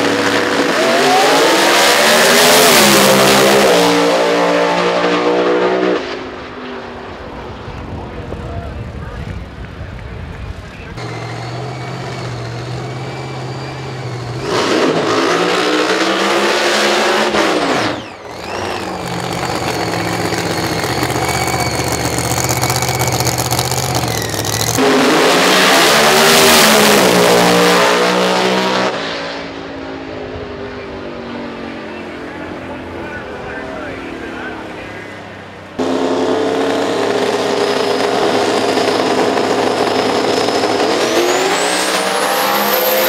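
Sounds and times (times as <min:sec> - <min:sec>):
engines running with high whine: 0:00.0 - 0:43.0
race car engines at full throttle: 0:00.0 - 0:43.0.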